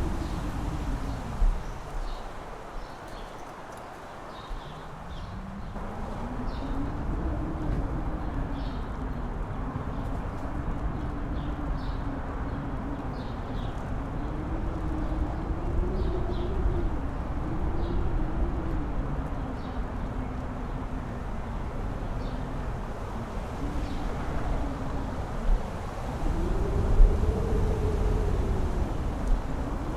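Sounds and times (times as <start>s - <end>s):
strong wind gusting: 0.0s - 3.1s, 4.3s - 29.9s
wind buffeting microphone: 0.0s - 29.9s.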